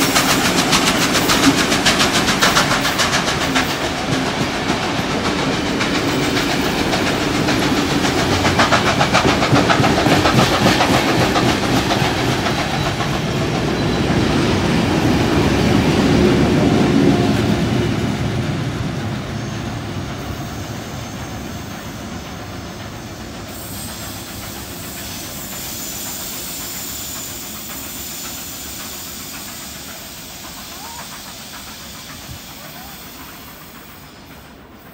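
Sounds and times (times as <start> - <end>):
train wheel and rail noise: 0.0 - 34.9.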